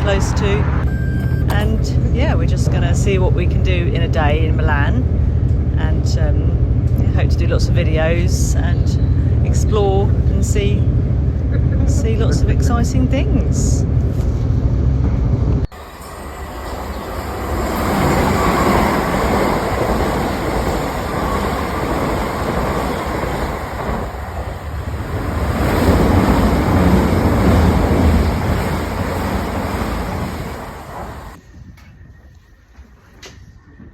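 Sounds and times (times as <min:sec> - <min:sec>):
train running: 0:00.0 - 0:31.9.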